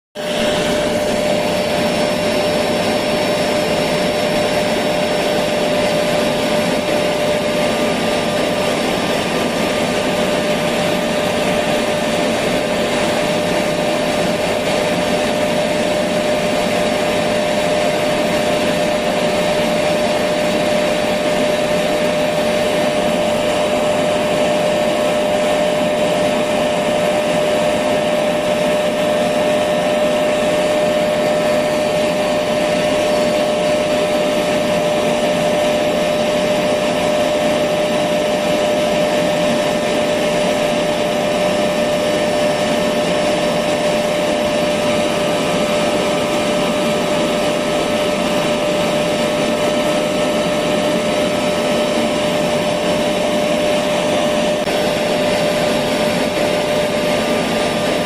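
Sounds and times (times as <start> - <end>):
vacuum cleaner running: 0.2 - 58.0.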